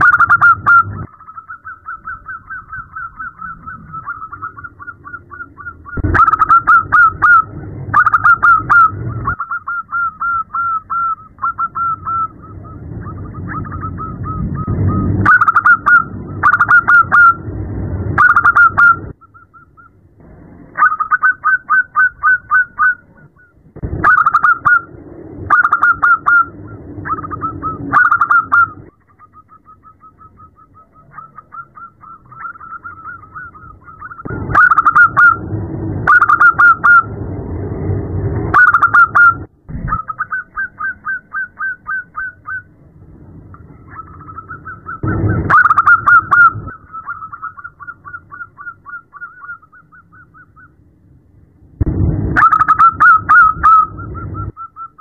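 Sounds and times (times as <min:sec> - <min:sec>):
doves cooing: 0:00.0 - 0:17.6, 0:18.2 - 0:37.2, 0:38.5 - 0:42.9, 0:43.6 - 0:50.8, 0:52.4 - 0:55.0.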